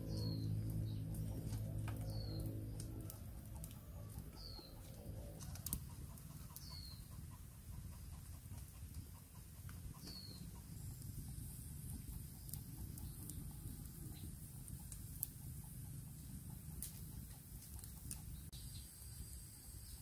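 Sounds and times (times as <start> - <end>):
faint low background hum: 0.0 - 20.0.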